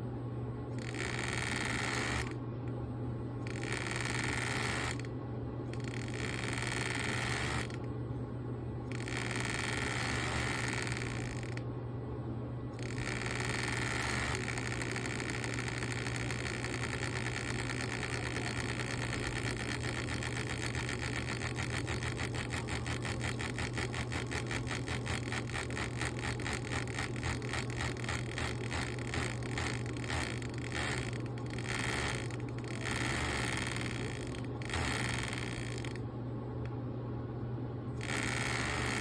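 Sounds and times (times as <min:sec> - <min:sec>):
steady low hum: 0:00.0 - 0:39.0
fan clattering rapidly: 0:00.8 - 0:02.4, 0:03.4 - 0:05.1, 0:05.7 - 0:07.9, 0:08.9 - 0:11.6, 0:12.8 - 0:36.0, 0:38.0 - 0:39.0.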